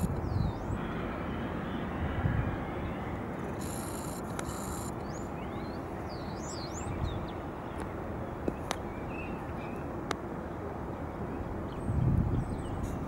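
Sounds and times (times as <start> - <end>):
jet engines rumbling: 0.0 - 11.6.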